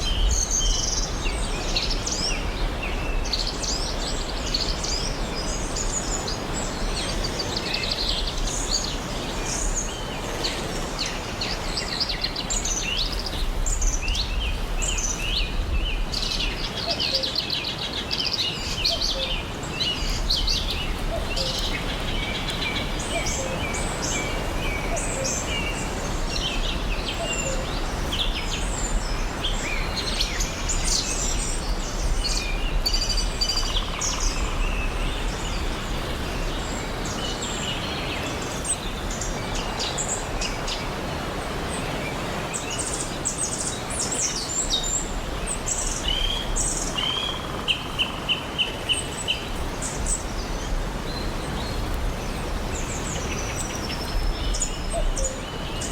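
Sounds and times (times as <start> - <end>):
small birds chirping and trilling: 0.0 - 55.9
stream rushing: 0.0 - 55.9.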